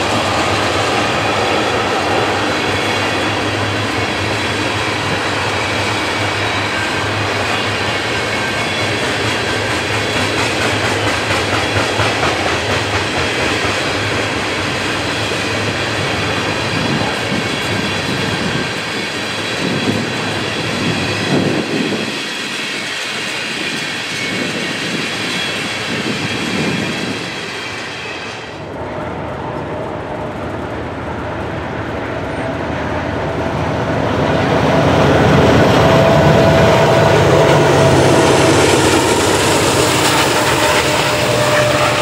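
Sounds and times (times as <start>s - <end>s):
train wheels clicking over rail joints: 0.0s - 28.8s, 34.9s - 42.0s
diesel locomotive rumble: 0.0s - 42.0s
wheels squealing on rails: 0.0s - 42.0s.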